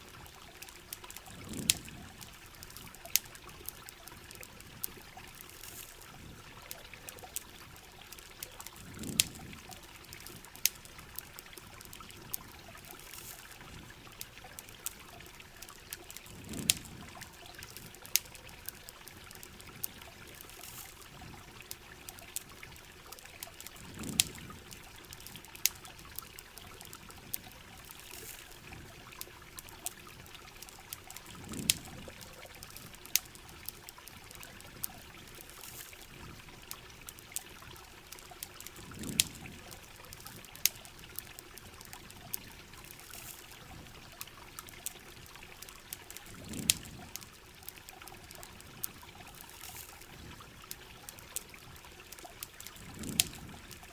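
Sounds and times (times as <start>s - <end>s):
campfire crackling: 0.0s - 53.9s
water trickling and pouring: 0.0s - 53.9s.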